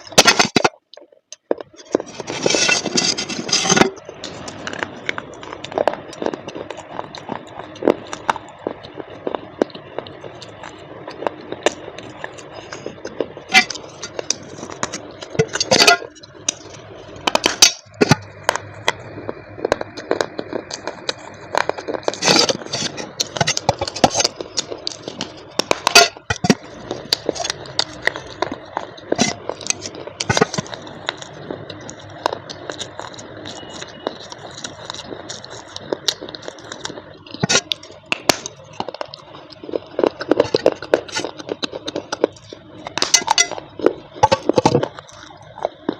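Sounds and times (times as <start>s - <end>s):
packaging crackling and clicking: 0.0s - 45.9s
faint high whine: 7.2s - 45.9s.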